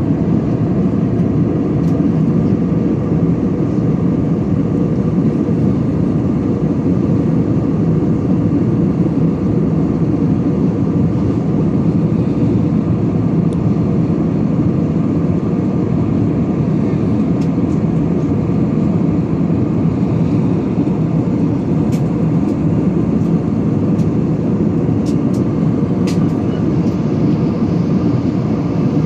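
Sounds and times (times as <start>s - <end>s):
airplane cabin engine drone: 0.0s - 29.0s.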